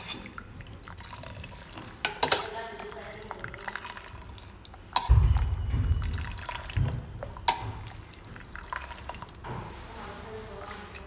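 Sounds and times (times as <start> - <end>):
liquid splashing and dripping: 0.0 - 9.8.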